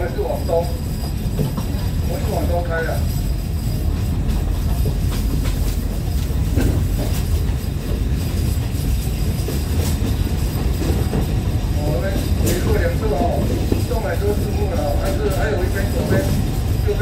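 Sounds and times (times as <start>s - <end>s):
rail joint clicks: 0.0s - 17.0s
train wheels rumbling on track: 0.0s - 17.0s.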